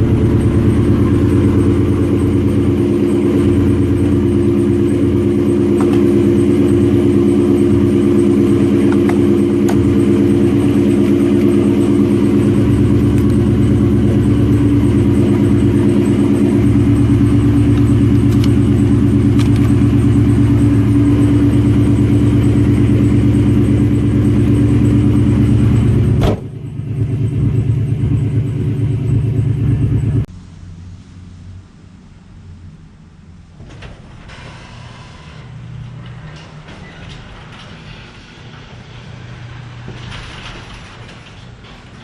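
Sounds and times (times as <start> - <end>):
car engine idling: 0.0 - 34.2.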